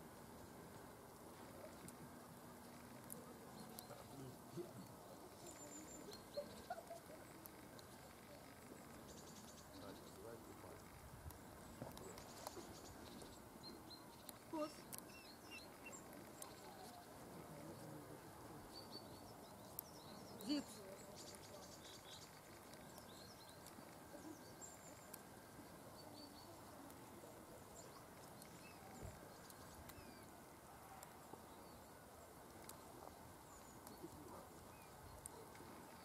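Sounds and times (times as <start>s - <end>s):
faint bird chirps: 2.6s - 36.0s.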